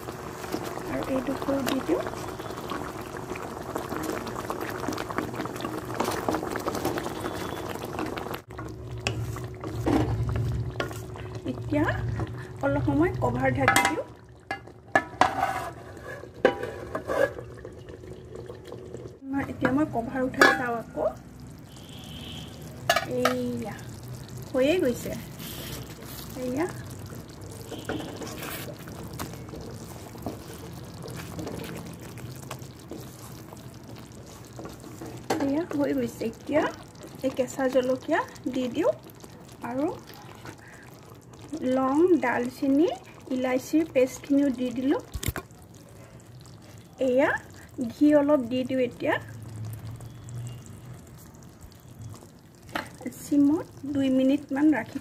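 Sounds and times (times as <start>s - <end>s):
curry bubbling in a pan: 0.0s - 55.0s.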